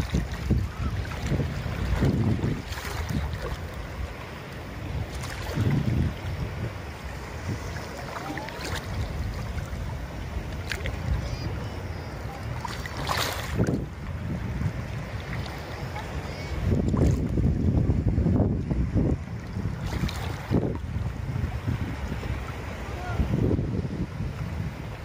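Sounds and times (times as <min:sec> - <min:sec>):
sea water lapping: 0:00.0 - 0:25.0
water splashes: 0:00.0 - 0:25.0
wind on microphone: 0:00.0 - 0:25.0.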